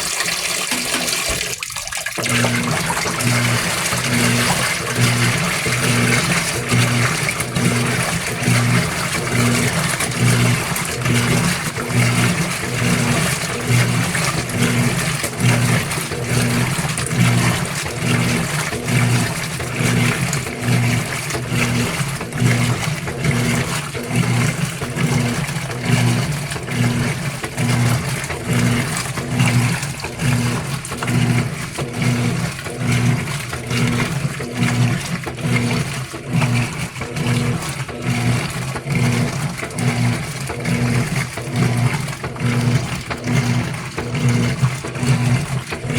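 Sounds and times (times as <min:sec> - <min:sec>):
washer motor humming in strokes: 0:00.0 - 0:45.9
water sloshing in tub: 0:00.0 - 0:45.9.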